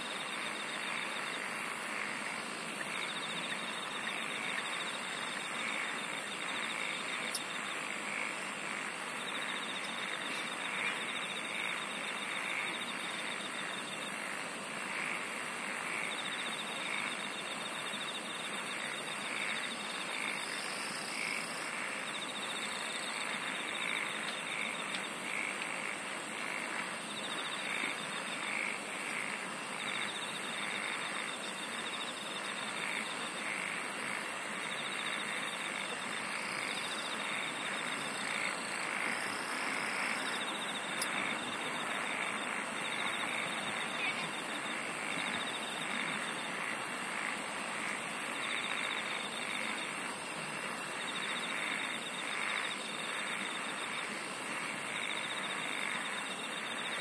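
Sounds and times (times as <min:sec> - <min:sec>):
high pulsing insect trills: 0:00.0 - 0:57.0
insect middle trill: 0:00.0 - 0:57.0
steady background hiss: 0:00.0 - 0:57.0.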